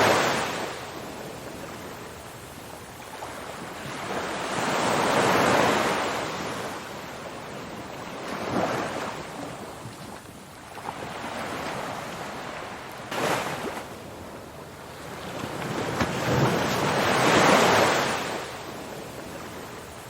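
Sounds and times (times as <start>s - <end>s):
ocean waves washing: 0.0s - 20.0s.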